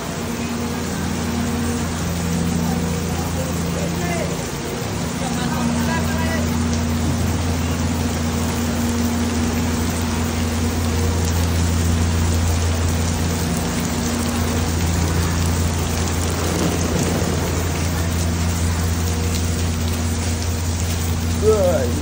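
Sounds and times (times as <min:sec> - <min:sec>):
low steady hum: 0:00.0 - 0:22.0
rain on an umbrella: 0:00.0 - 0:22.0.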